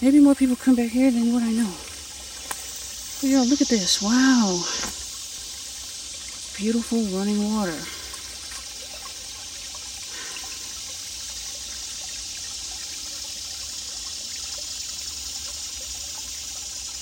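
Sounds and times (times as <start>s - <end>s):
creek trickling over rocks: 0.0s - 17.0s.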